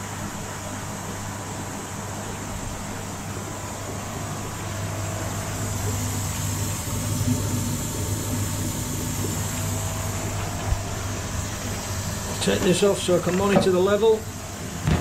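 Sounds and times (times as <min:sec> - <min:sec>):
air pumps humming: 0:00.0 - 0:15.0.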